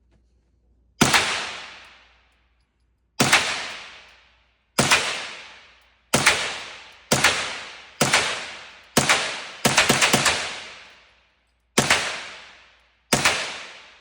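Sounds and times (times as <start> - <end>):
gunshots with long echo: 1.0 - 2.2, 3.2 - 11.2, 11.8 - 14.0.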